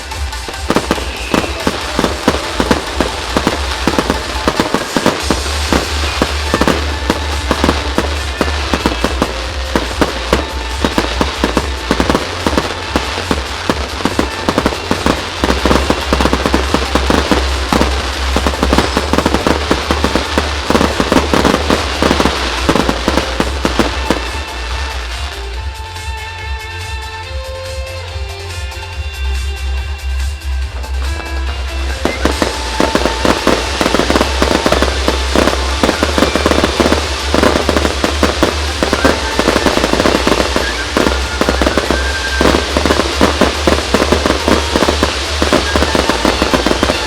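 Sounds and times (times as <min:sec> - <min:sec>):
fireworks bangs and crackles: 0:00.0 - 0:29.4, 0:30.2 - 0:47.0
music: 0:00.0 - 0:47.0.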